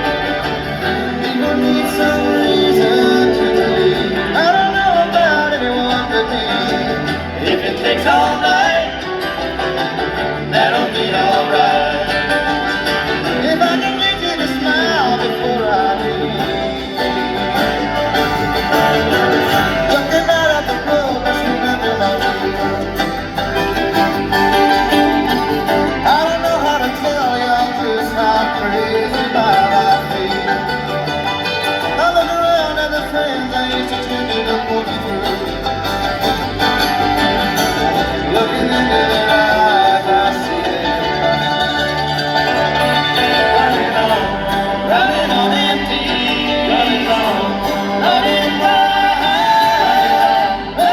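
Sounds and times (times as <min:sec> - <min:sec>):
banjo: 0:00.0 - 0:50.9
bluegrass band playing: 0:00.0 - 0:50.9
person singing: 0:00.0 - 0:50.9.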